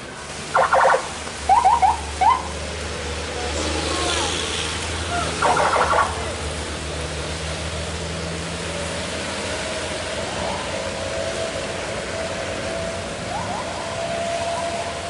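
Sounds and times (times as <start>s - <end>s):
rain and tyres on wet road: 0.0s - 15.0s
vehicle engine hum: 0.0s - 15.0s.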